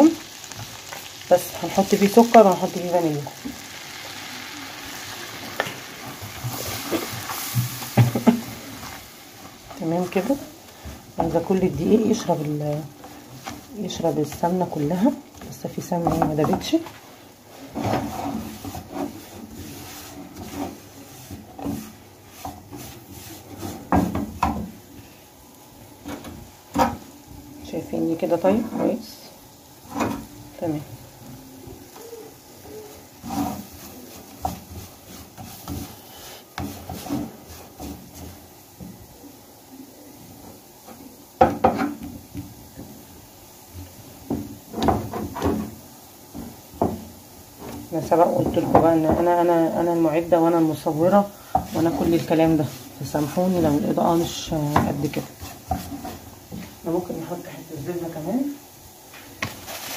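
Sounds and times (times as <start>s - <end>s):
spatula scraping frying pan: 0.3s - 24.9s, 29.7s - 39.3s, 44.0s - 58.1s.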